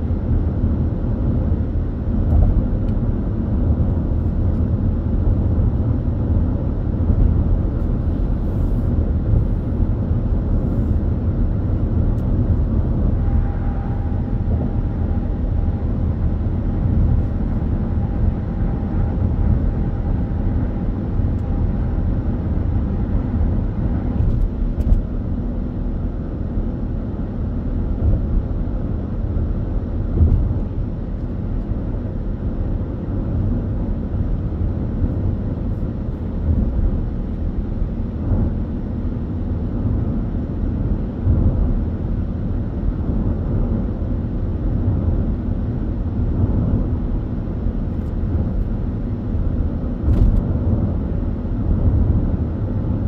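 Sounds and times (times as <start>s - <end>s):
car engine drone: 0.0s - 53.0s.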